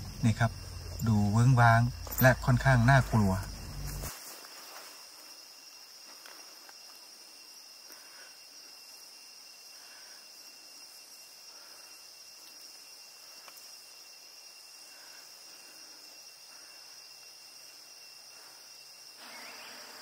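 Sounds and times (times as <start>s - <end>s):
insect chorus drone: 0.0s - 20.0s
soft short insect calls: 0.0s - 20.0s.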